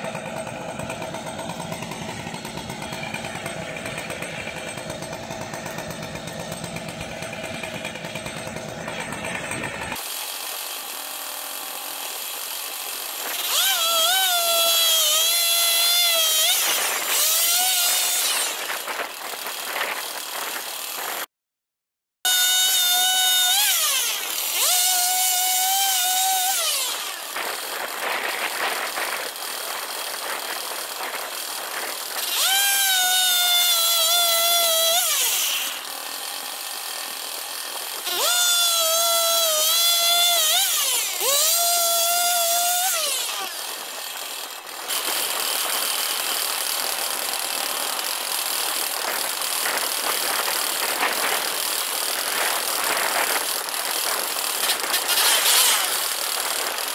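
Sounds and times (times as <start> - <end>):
chainsaw engine revving: 0.0 - 21.3, 22.3 - 56.9.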